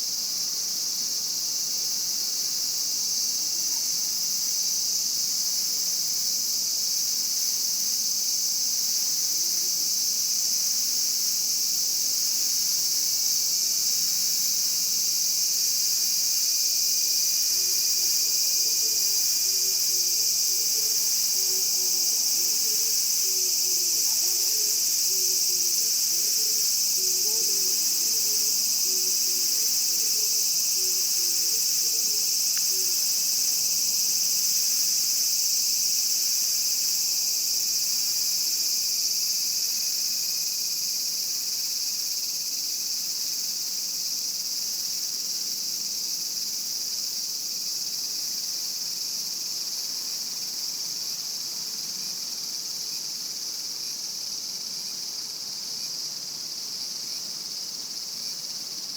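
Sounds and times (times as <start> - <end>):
cicadas buzzing: 0.0 - 58.9.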